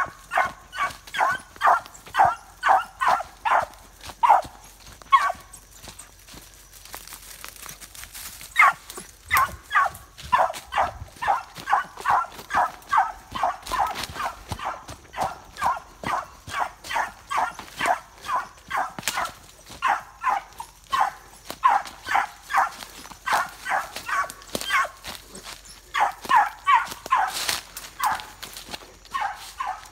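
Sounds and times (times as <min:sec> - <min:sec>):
hound barking: 0:00.0 - 0:06.4, 0:08.5 - 0:29.9.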